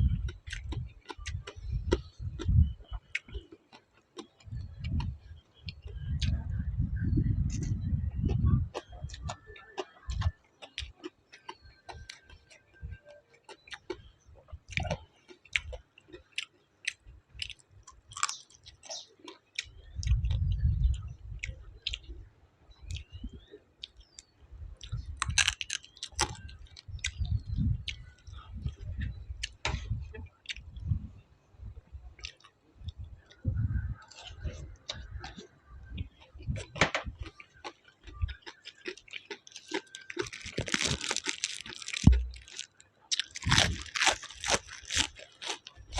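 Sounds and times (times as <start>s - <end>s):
person chewing food: 0.0s - 6.5s, 7.4s - 22.2s, 22.9s - 30.9s, 32.2s - 45.9s.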